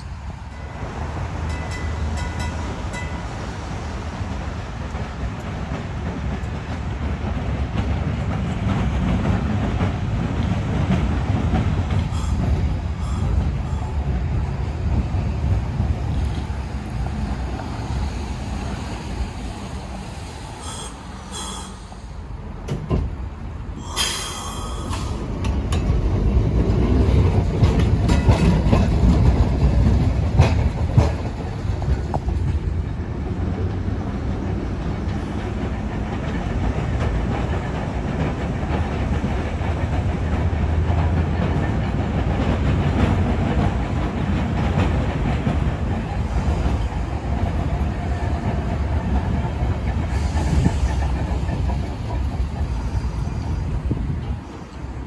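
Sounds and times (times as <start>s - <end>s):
tram rumbling on rails: 0.0s - 55.0s.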